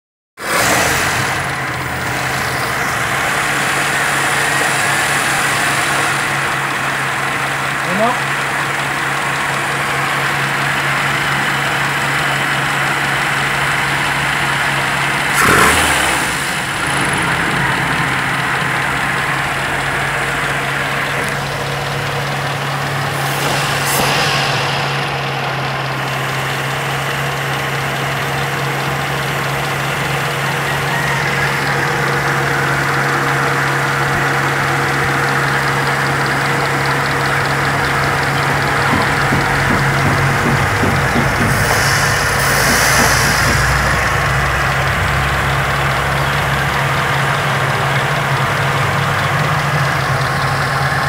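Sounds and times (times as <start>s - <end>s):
car engine idling: 0.5s - 51.0s.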